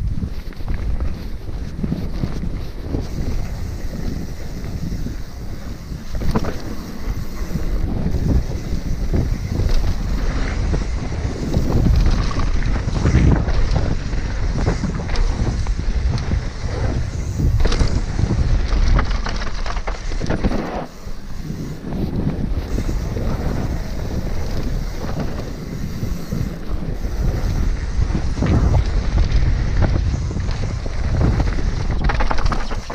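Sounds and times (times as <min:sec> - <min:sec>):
bike knocking and rattling: 0:00.0 - 0:32.9
wind rushing over microphone: 0:00.0 - 0:32.9
tyres rolling over dirt and stones: 0:04.2 - 0:27.6, 0:28.2 - 0:32.9.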